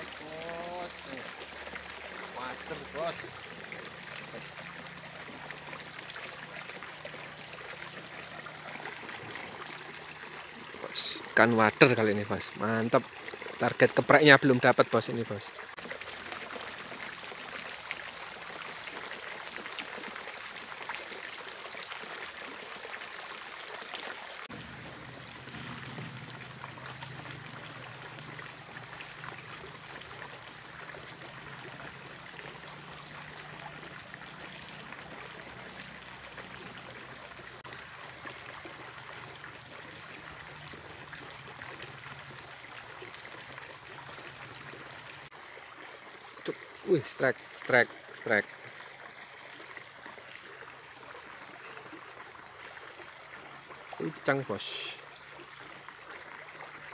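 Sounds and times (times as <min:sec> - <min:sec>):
stream trickling over rocks: 0:00.0 - 0:56.9.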